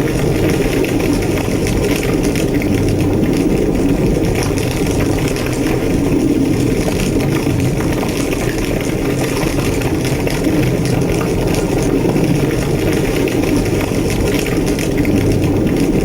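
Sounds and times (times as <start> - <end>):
fire crackling: 0.0 - 16.0
fire roaring: 0.0 - 16.0.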